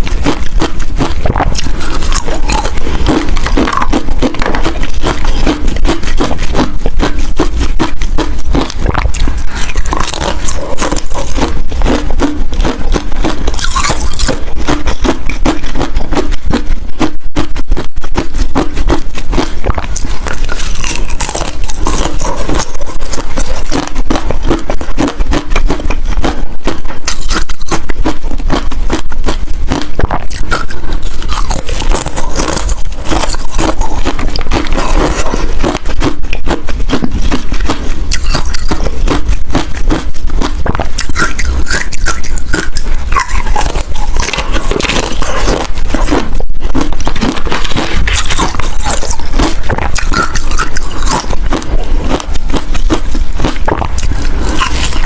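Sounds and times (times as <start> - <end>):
crunching ice between teeth: 0.0 - 55.0.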